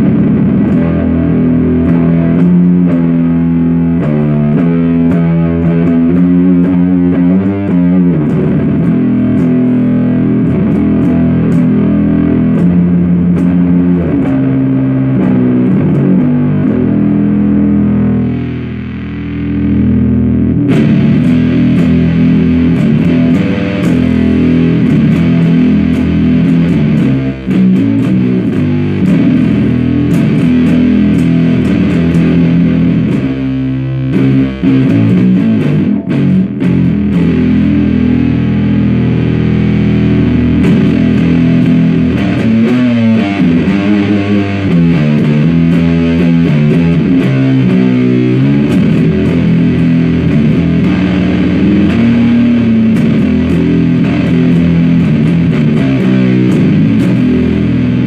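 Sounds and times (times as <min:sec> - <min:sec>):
fuzzed bass guitar riffs: 0:00.0 - 0:58.0.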